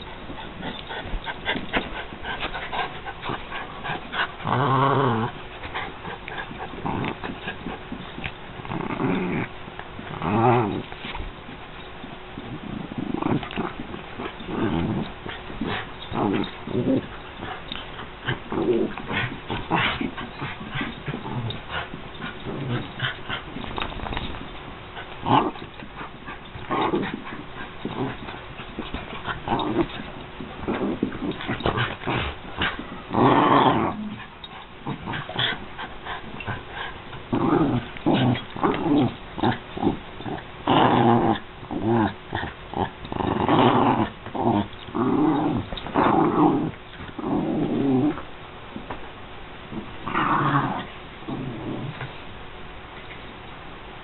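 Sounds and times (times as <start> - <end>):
dogs growling: 0.0 - 11.2, 12.4 - 49.0, 49.7 - 52.2.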